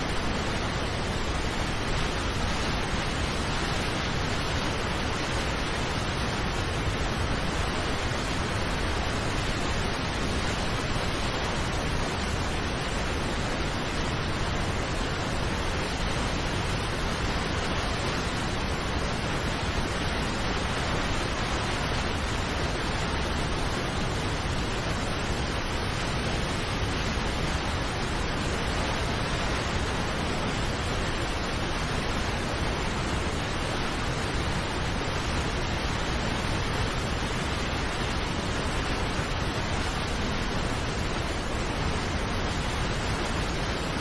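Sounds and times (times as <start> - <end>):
waterfall rushing over rocks: 0.0 - 44.0.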